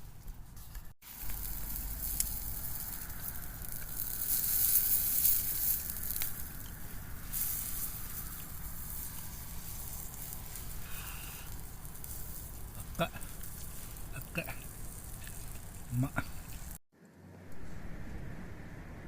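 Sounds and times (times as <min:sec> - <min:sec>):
meat and onions sizzling: 0:01.0 - 0:16.8.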